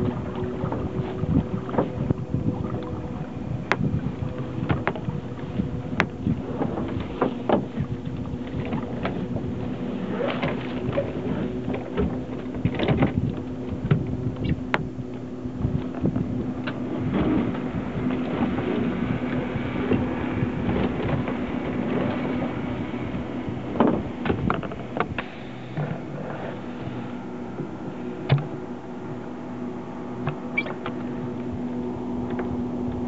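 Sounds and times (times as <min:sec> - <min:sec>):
boat motor humming: 0:00.0 - 0:33.0
water noise: 0:00.0 - 0:33.0
wind: 0:00.0 - 0:33.0.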